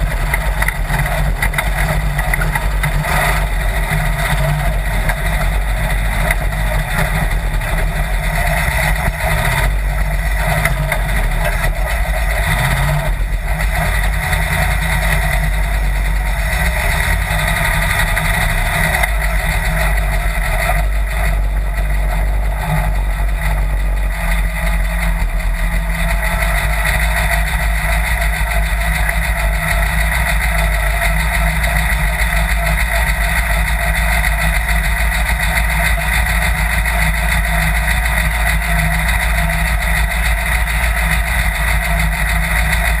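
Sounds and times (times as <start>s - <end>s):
dune buggy engine idling: 0.0s - 43.0s.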